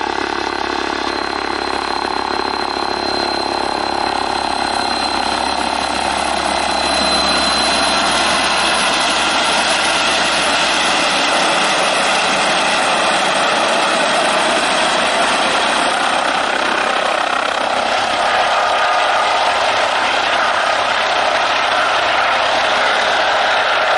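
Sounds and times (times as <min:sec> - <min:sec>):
helicopter hovering: 0:00.0 - 0:23.9.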